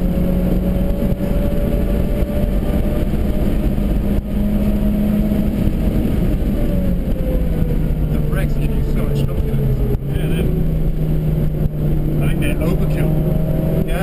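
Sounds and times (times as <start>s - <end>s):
car engine pulling at speed: 0.0s - 14.0s
road and wind noise: 0.0s - 14.0s.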